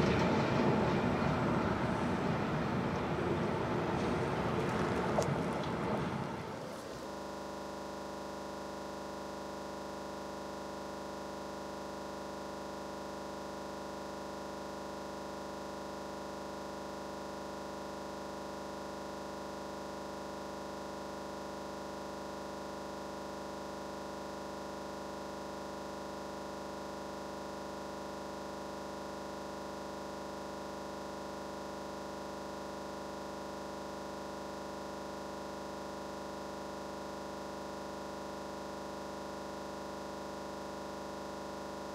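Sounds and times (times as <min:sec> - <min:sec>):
electronic hum and hiss: 0:00.7 - 0:41.9.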